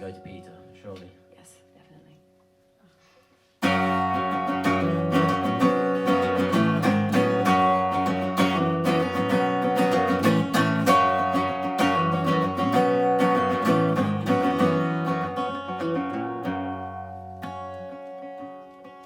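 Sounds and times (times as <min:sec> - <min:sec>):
acoustic guitar strumming: 0:00.0 - 0:02.7, 0:03.4 - 0:19.0.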